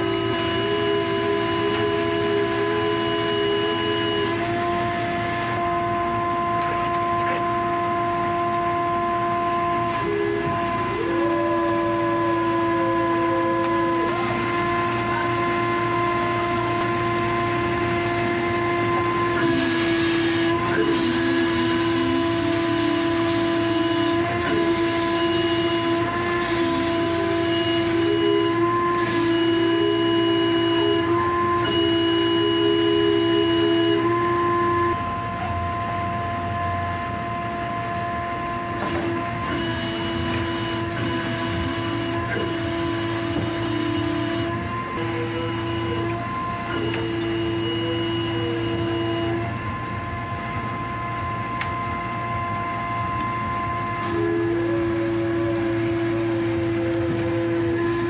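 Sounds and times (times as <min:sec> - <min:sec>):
deck machinery whining: 0:00.0 - 0:58.0.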